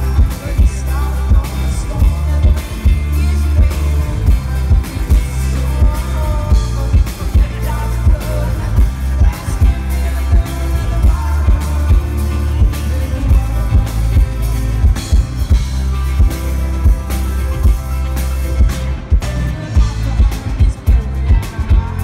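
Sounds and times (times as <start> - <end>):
drum kit beat: 0.0 - 22.0
electric bass: 0.0 - 22.0
electric guitar: 0.0 - 22.0.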